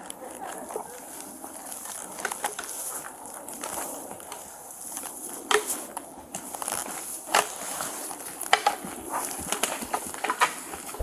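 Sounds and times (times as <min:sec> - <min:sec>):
twigs cracking underfoot: 0:00.0 - 0:11.0.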